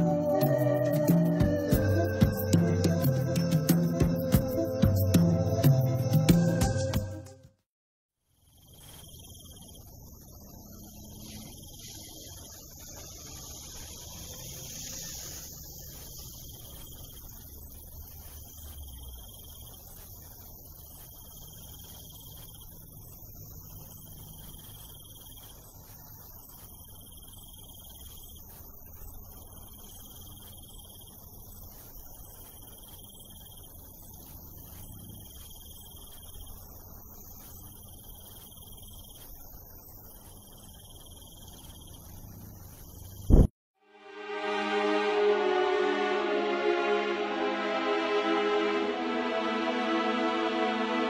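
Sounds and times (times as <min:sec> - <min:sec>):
crickets chirping: 0:00.0 - 0:06.3, 0:08.3 - 0:43.5.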